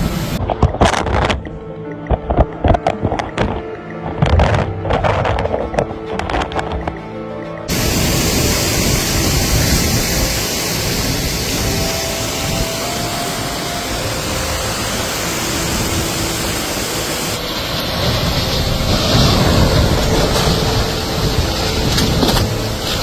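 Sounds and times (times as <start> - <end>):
hurricane wind and rain: 0.0 - 23.0.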